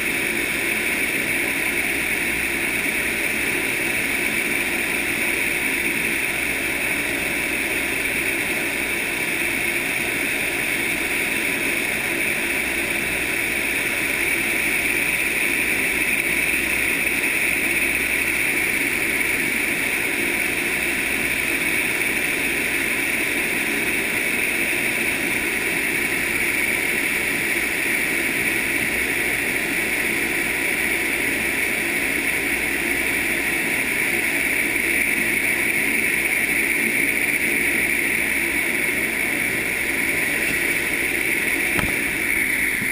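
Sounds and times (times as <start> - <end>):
wind tunnel fan rushing air: 0.0 - 42.9.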